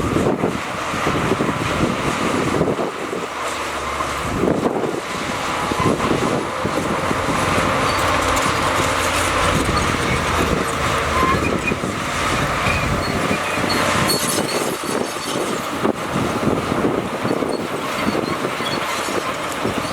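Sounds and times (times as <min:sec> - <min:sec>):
bulldozer diesel engine running: 0:00.0 - 0:19.9
steel tracks clanking and squeaking: 0:02.5 - 0:19.9.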